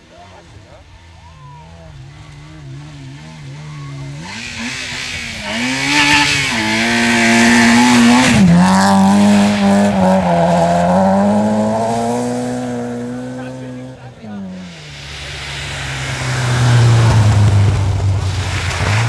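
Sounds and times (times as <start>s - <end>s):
rally car engine revving: 0.4s - 19.0s.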